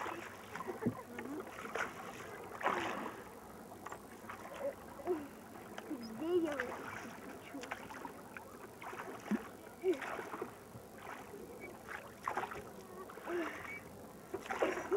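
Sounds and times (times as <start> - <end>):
oars splashing water: 0.0 - 14.9.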